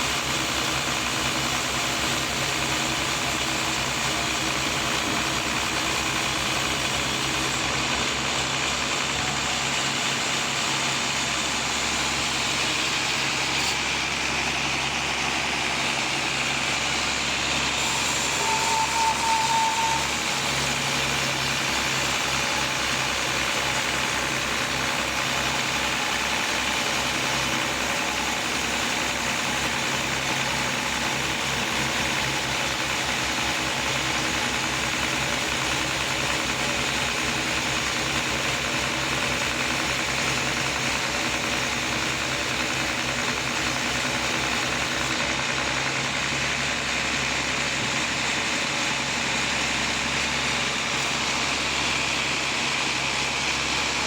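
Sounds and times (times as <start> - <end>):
engine drone: 0.0 - 54.0
saw noise: 0.0 - 54.0.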